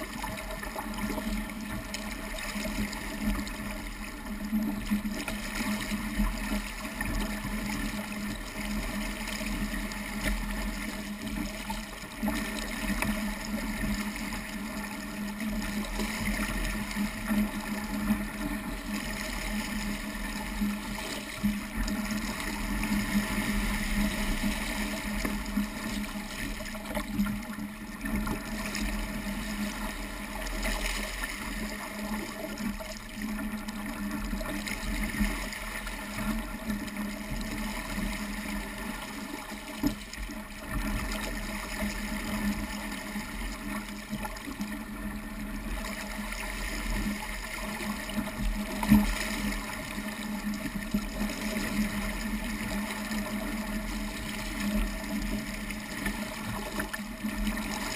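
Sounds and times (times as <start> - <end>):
water rushing along a boat hull: 0.0 - 57.9.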